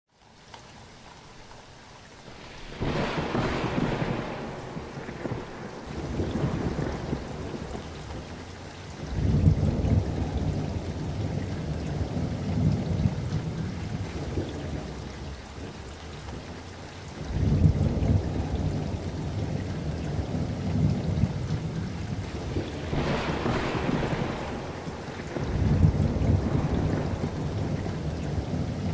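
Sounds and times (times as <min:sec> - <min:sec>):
steady rain: 0:00.1 - 0:28.9
rolling thunder: 0:02.4 - 0:16.5, 0:17.2 - 0:28.9.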